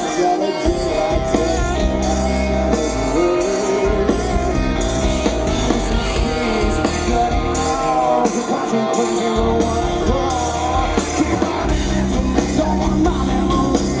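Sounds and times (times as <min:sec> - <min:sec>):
electric guitars: 0:00.0 - 0:14.0
live rock band playing: 0:00.0 - 0:14.0.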